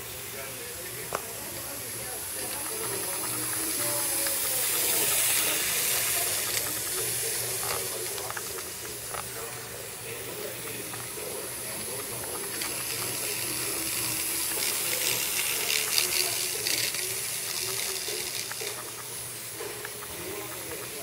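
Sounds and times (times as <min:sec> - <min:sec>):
model train whirring on track: 0:00.0 - 0:21.0.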